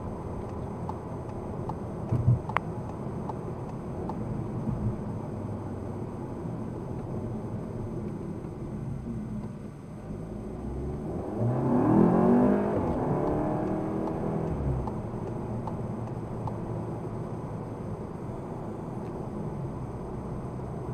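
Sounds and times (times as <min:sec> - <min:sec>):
car engine accelerating: 0:00.0 - 0:20.9
road noise in car cabin: 0:00.0 - 0:20.9.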